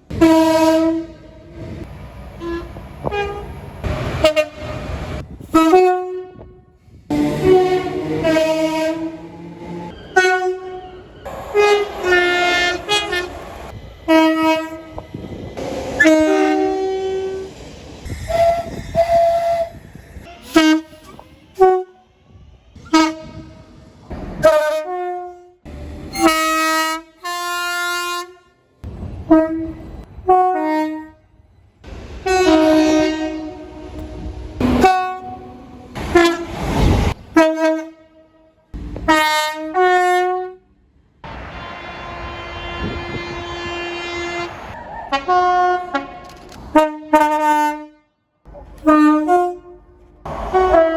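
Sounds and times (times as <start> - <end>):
train horn blasts: 0.1 - 17.5, 18.2 - 22.0, 22.8 - 23.8, 24.4 - 28.6, 29.2 - 31.3, 32.2 - 36.6, 37.3 - 50.9.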